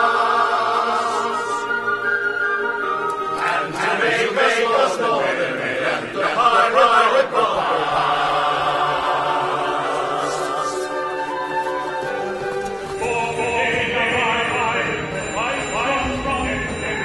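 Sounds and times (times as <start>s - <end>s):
men's chorus singing: 0.0s - 1.8s, 3.2s - 11.5s, 12.8s - 17.0s.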